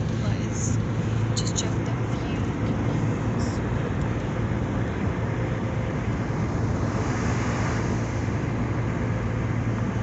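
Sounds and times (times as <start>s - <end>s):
car engine hum: 0.0s - 10.0s.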